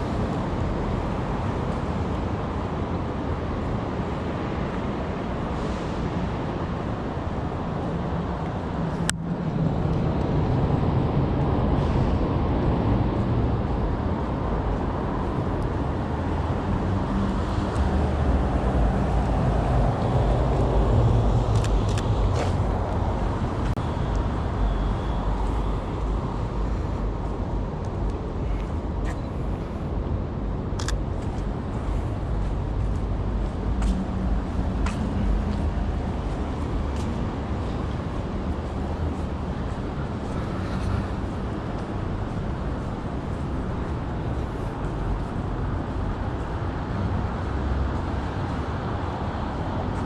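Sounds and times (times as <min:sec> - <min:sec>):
cars passing: 0:00.0 - 0:50.0.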